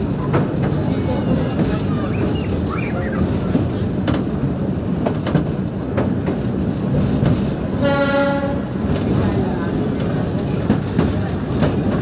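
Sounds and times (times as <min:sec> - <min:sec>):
train rumbling along track: 0:00.0 - 0:12.0
wheels clicking over rail joints: 0:00.0 - 0:12.0.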